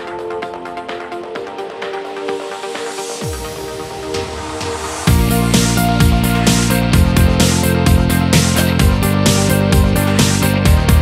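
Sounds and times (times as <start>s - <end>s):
electronic music with synths: 0.0s - 11.0s.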